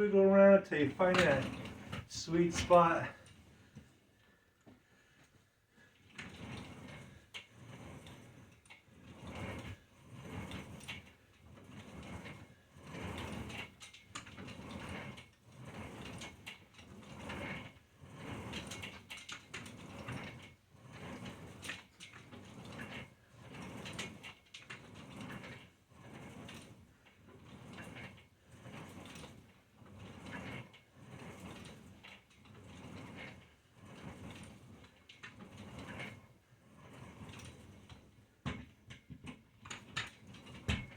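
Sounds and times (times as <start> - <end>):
exercise equipment creaking and clicking: 0.0 - 40.9.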